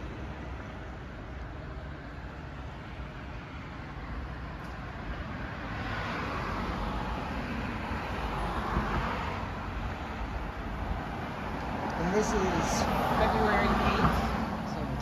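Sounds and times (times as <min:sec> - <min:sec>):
car passing: 0:00.0 - 0:15.0.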